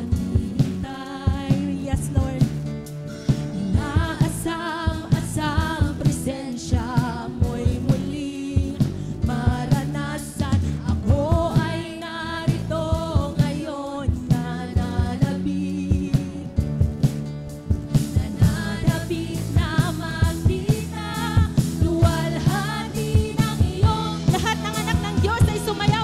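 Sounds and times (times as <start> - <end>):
bass: 0.0 - 26.0
guitars: 0.0 - 26.0
keyboard: 0.0 - 26.0
steady drum beat: 0.0 - 26.0
women singing together: 3.6 - 16.5, 18.0 - 26.0.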